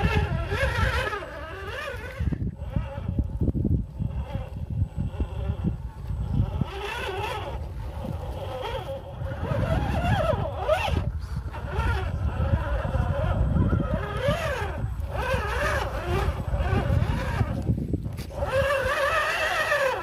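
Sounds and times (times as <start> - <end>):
electric motor and gearbox whining: 0.0 - 20.0.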